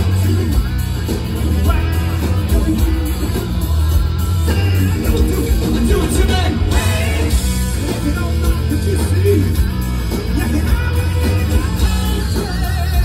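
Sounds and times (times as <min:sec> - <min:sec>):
hard rock band playing: 0:00.0 - 0:13.0.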